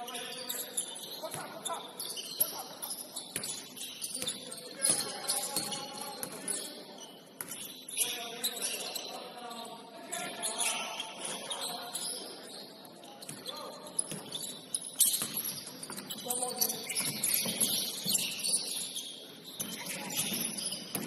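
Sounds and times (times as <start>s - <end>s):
sneakers squeaking on court: 0.0s - 9.2s, 10.3s - 21.0s.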